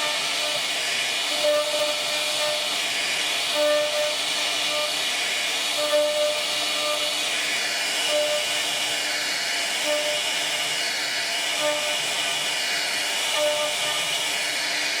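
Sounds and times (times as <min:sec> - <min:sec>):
wood router hiss: 0:00.0 - 0:15.0.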